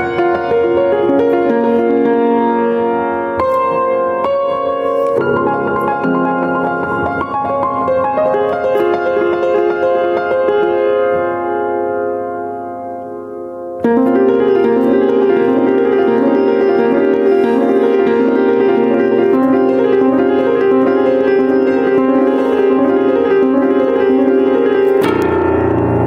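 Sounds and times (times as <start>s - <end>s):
upright piano playing broken chords: 0.0s - 26.0s.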